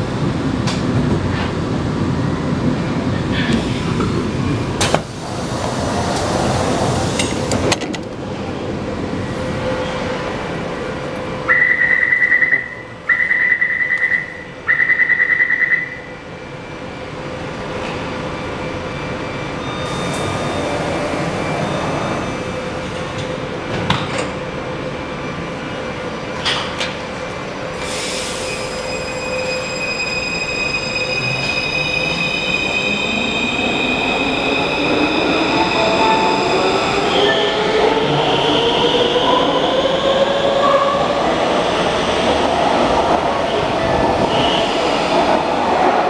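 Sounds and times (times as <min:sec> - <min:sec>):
train car hum: 0:00.0 - 0:46.0.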